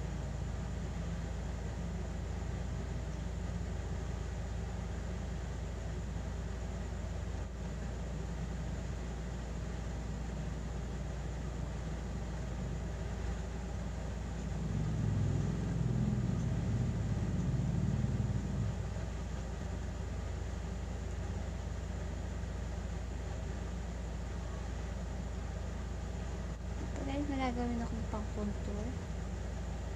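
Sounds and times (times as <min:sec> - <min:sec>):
low background rumble: 0:00.0 - 0:29.9.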